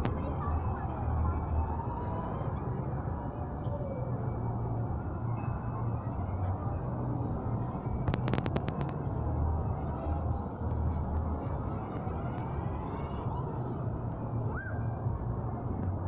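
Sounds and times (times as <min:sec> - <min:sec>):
shopping mall hubbub: 0:00.0 - 0:16.0.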